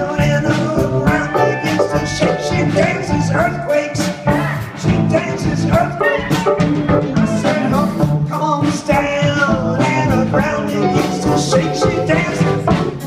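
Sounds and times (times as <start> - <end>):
bass guitar: 0.0 - 13.0
drum kit beat: 0.0 - 13.0.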